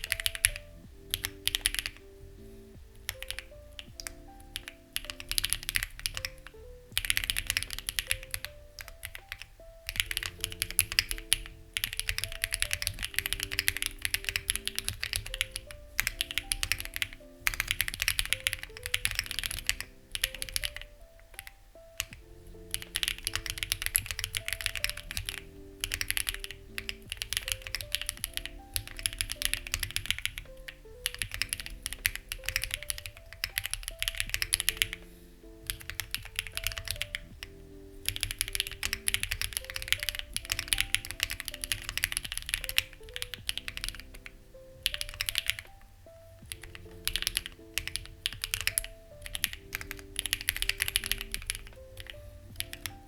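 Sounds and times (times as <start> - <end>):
typing on mechanical keyboard: 0.0 - 2.0, 2.8 - 53.0
soft background music: 0.0 - 53.0.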